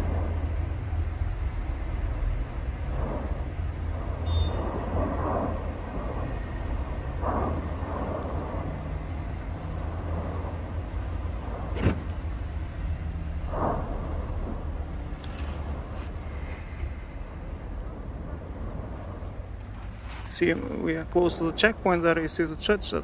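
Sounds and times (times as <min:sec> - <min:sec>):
volcano low rumble: 0:00.0 - 0:23.0
sharp crack: 0:02.2 - 0:22.3.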